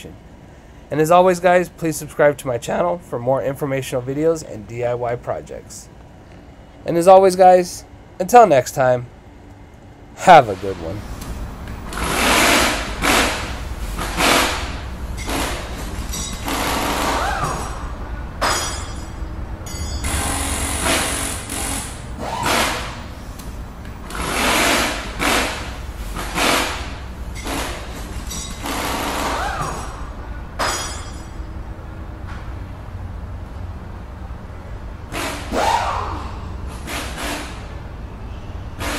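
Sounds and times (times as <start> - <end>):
steady low rumble: 0.0 - 35.1.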